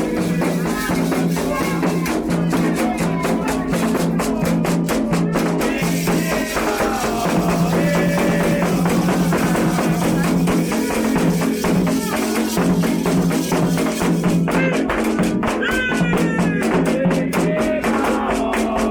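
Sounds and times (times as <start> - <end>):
drums beating: 0.0 - 18.9
voices singing: 0.0 - 18.9.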